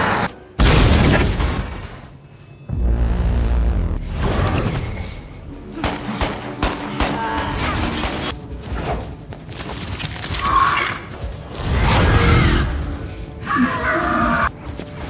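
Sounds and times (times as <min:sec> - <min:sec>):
action film music: 0:00.0 - 0:15.0.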